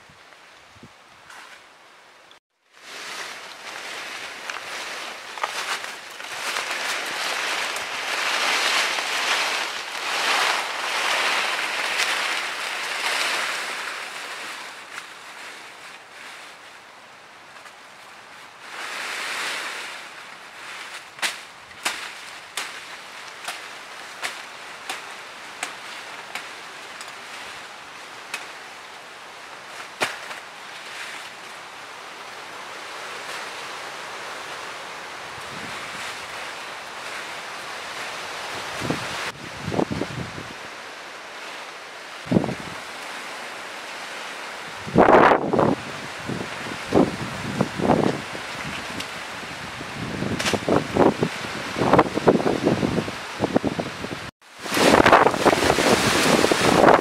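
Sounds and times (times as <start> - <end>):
surging rustling noise: 2.7 - 57.0.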